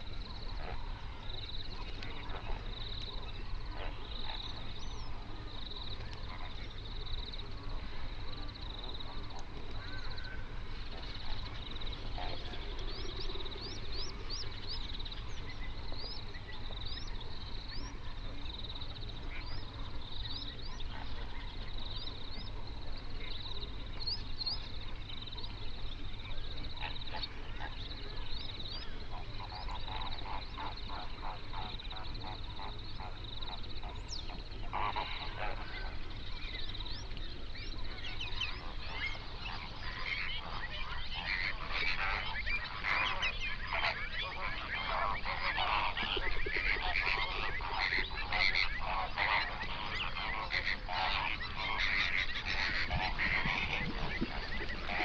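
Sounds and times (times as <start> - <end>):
flamingos honking: 0.0 - 18.5, 26.3 - 55.0
low steady rumble: 0.0 - 55.0.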